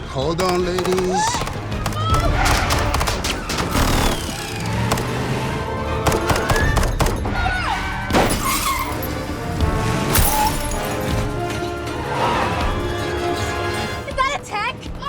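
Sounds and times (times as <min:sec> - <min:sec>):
orchestral score music: 0:00.4 - 0:08.3, 0:08.9 - 0:15.0.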